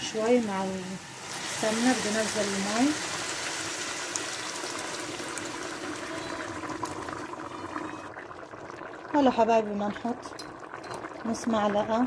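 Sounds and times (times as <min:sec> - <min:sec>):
water pouring into hot pot: 0:00.0 - 0:12.0.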